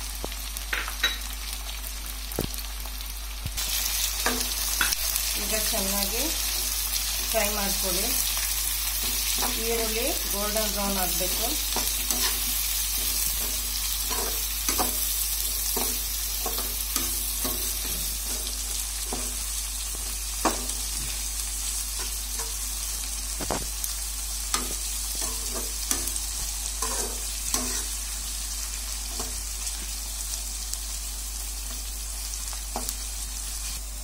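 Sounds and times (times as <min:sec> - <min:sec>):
onions sizzling in oil: 0:00.0 - 0:34.0.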